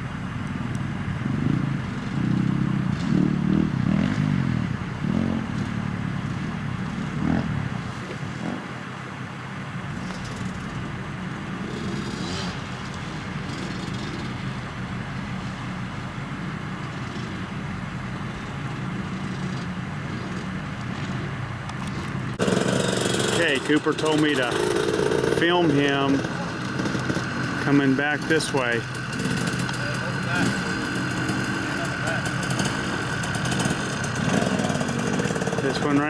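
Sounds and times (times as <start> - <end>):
dirt bike engine drone: 0.0 - 36.0.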